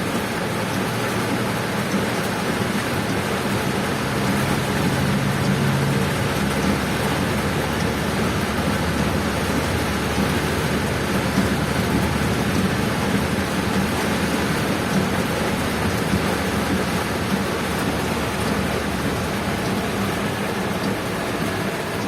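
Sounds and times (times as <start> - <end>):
heavy rain falling: 0.0 - 22.0
low vehicle engine hum: 0.1 - 22.0.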